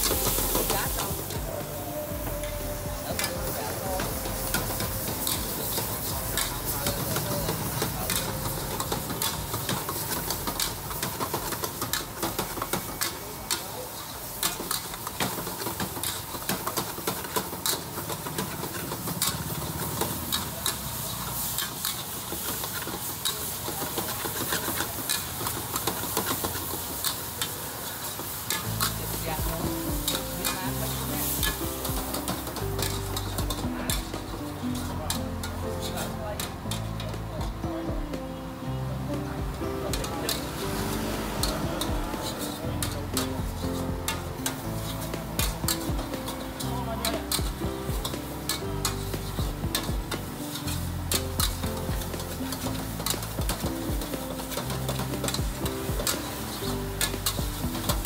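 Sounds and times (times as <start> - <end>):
food sizzling: 0.0 - 58.0
metal spatula scraping wok: 2.5 - 37.1, 40.0 - 47.4, 48.1 - 53.6, 54.2 - 55.4.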